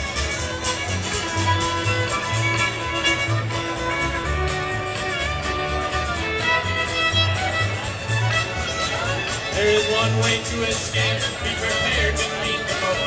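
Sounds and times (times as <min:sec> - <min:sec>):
bass notes: 0:00.0 - 0:13.0
fiddle lead melody: 0:00.0 - 0:13.0
guitar strumming: 0:00.0 - 0:13.0.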